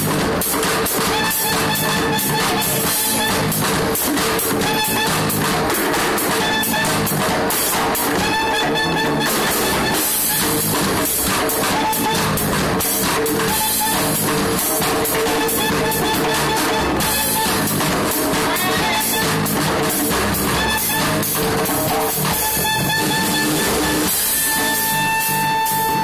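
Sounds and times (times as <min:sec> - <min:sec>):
live band music: 0:00.0 - 0:26.0
tap shoes on wooden boards: 0:00.1 - 0:24.2.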